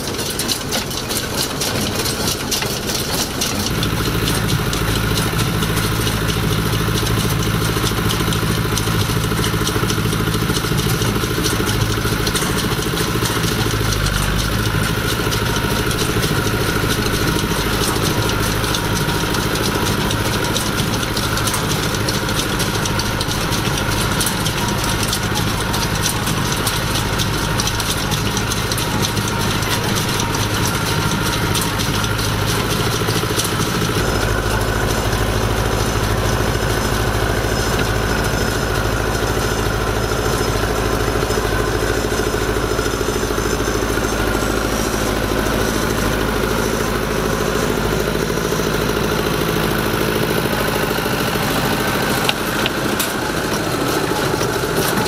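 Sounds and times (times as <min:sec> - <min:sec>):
hay baler: 0:00.0 - 0:55.0
tractor diesel engine running: 0:00.0 - 0:55.0.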